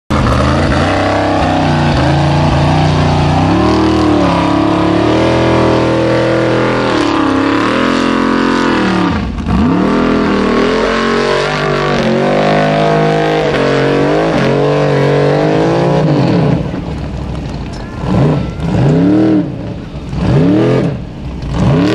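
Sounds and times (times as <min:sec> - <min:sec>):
buggy engine revving hard: 0:00.1 - 0:21.9.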